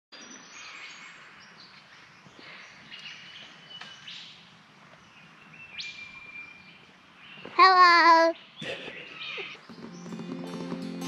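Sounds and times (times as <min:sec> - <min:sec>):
faint outdoor background: 0:00.1 - 0:11.0
wild birds calling: 0:00.4 - 0:11.0.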